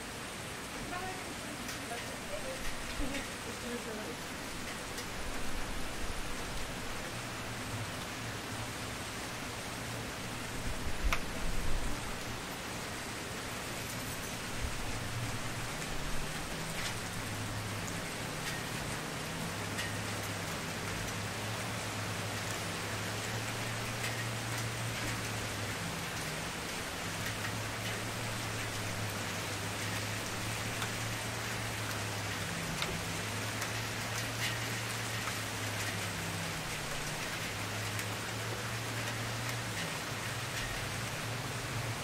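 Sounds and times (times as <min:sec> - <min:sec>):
campfire flames hissing and crackling: 0:00.0 - 0:42.0.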